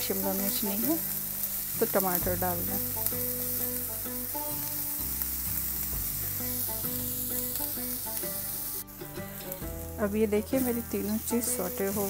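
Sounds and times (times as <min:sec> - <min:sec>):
soft background music: 0:00.0 - 0:12.0
vegetables sizzling in oil: 0:00.0 - 0:12.0.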